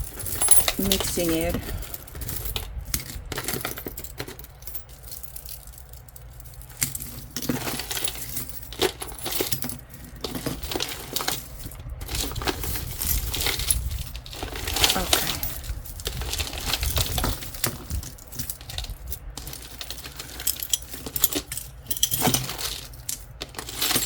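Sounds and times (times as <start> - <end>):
jewelry clinking and jangling: 0.0 - 24.0.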